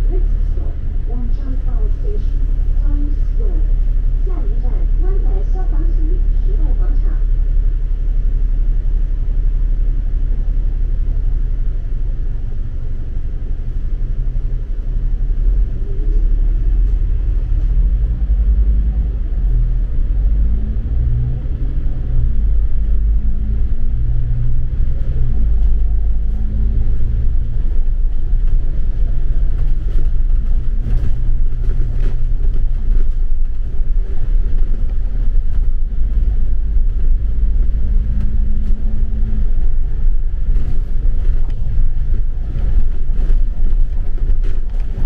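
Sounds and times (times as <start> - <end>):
low vehicle rumble: 0.0 - 45.0.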